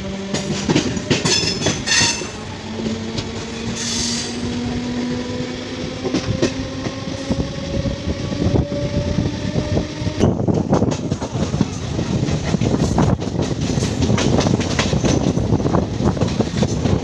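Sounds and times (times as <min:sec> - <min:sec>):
train wheels clicking over rail joints: 0:00.0 - 0:07.5, 0:10.0 - 0:17.0
steady train hum: 0:00.0 - 0:17.0.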